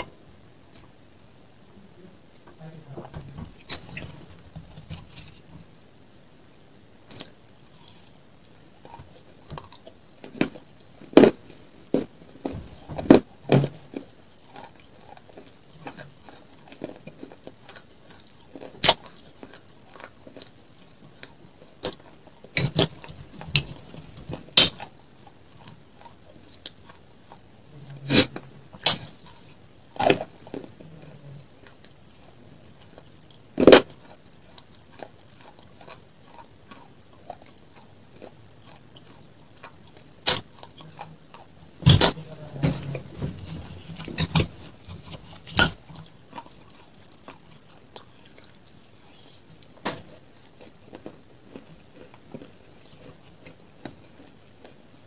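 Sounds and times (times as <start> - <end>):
chewing and eating: 7.1 - 55.0.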